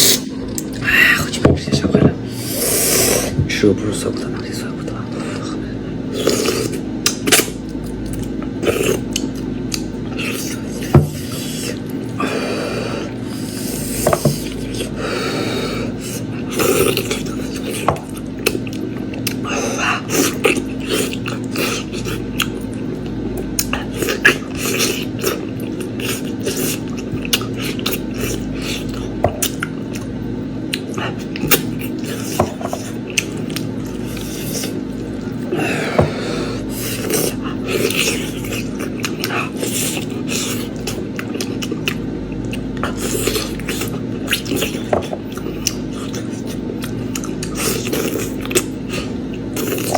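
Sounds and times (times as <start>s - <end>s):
steady low hum: 0.0s - 49.9s
person chewing meat: 5.1s - 49.9s.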